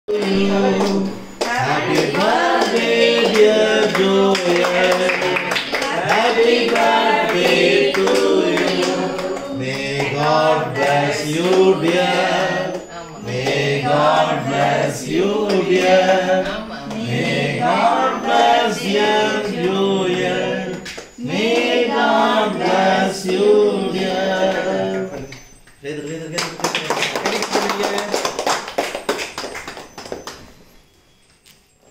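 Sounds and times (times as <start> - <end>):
adults and children singing: 0.1 - 26.2.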